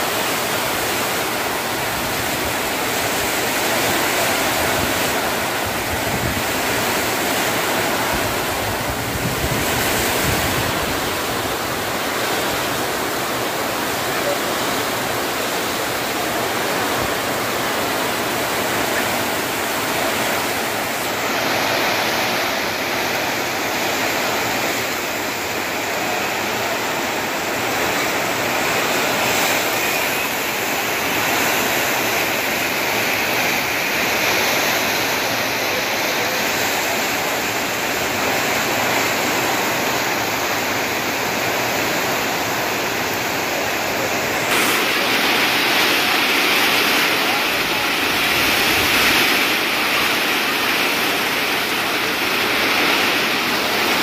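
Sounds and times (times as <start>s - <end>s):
heavy rain on roofs and pavement: 0.0s - 54.0s
water pouring off roof edges: 0.0s - 54.0s.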